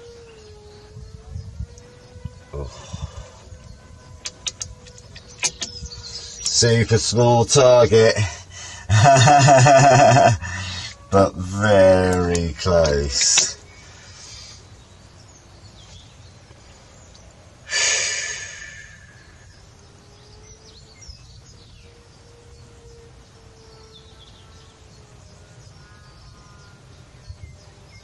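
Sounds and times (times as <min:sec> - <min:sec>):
faint bird chirps: 0:00.0 - 0:28.0
steady background hiss: 0:00.0 - 0:28.0.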